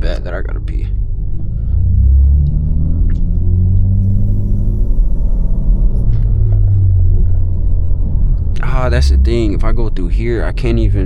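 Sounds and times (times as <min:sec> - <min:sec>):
car engine running low speed: 0:00.0 - 0:11.0.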